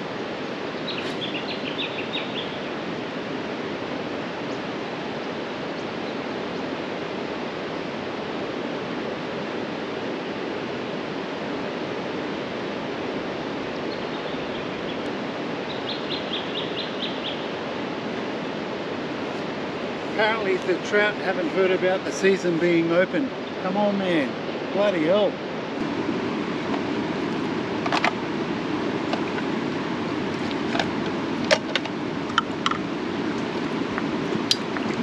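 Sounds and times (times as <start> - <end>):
river rushing: 0.0 - 35.0.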